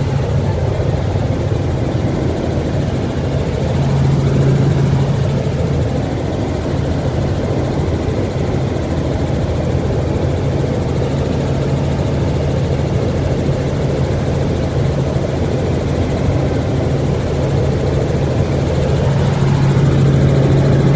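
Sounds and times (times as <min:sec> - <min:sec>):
helicopter rotor and engine: 0:00.0 - 0:20.9.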